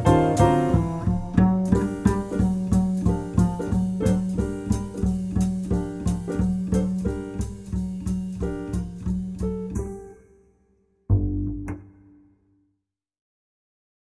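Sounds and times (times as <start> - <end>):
instrumental music with plucked notes: 0.0 - 12.4.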